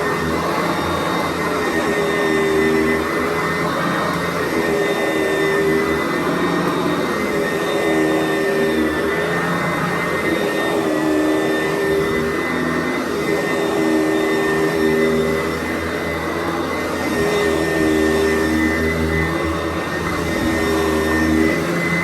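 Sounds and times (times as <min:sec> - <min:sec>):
upright vacuum motor whine: 0:00.0 - 0:22.0.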